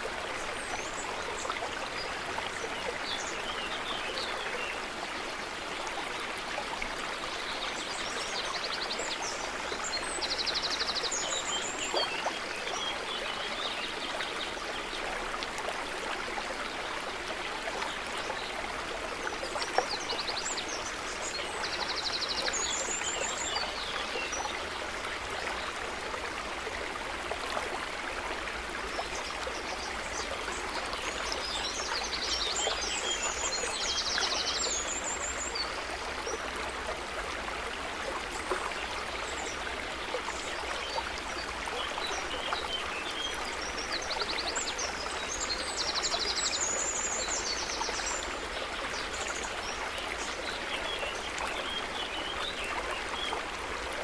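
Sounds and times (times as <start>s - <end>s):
stream running: 0.0s - 54.0s.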